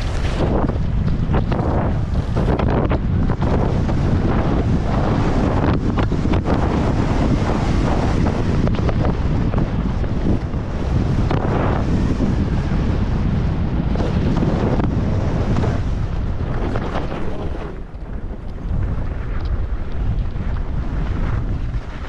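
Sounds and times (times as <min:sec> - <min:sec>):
skis scraping over snow: 0:00.0 - 0:22.0
wind rumble on microphone: 0:00.0 - 0:22.0.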